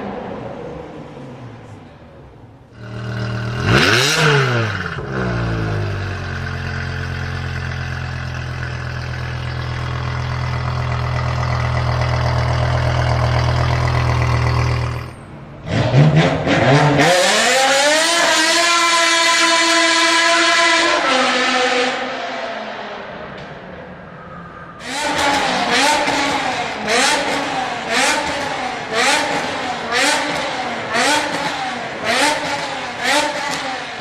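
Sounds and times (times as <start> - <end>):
car engine revving: 2.7 - 23.0, 24.8 - 34.0.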